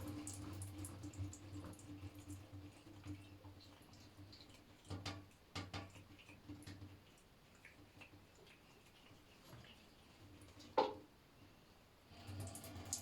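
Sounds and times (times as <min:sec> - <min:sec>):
water dripping: 0:00.0 - 0:11.0, 0:12.1 - 0:13.0.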